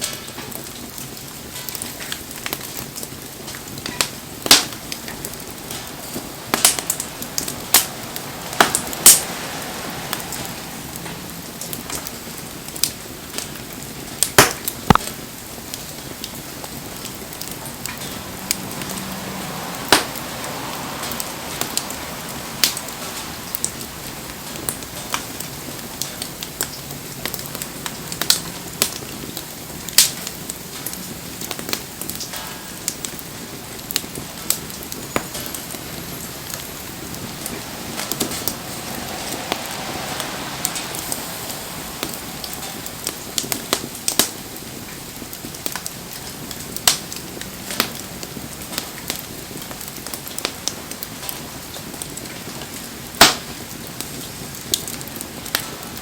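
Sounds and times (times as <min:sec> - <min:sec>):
campfire crackling and popping: 0:00.0 - 0:56.0
rain falling: 0:00.0 - 0:56.0.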